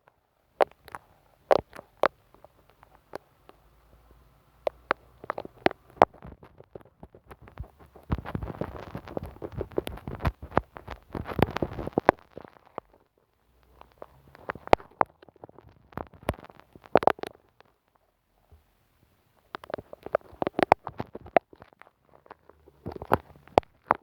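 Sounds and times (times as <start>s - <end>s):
glue stick crackling on microphone: 0.0s - 18.0s, 19.3s - 24.0s.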